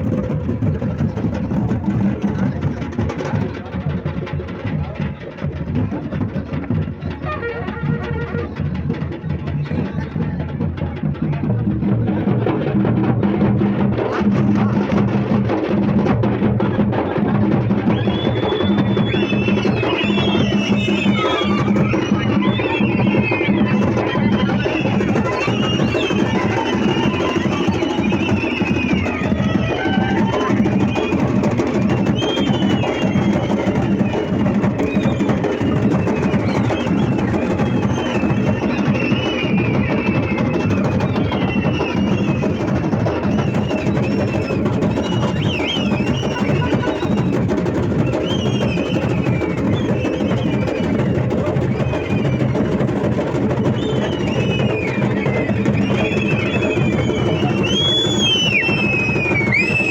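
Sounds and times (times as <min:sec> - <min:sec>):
loud percussion drumming: 0:00.0 - 0:59.9.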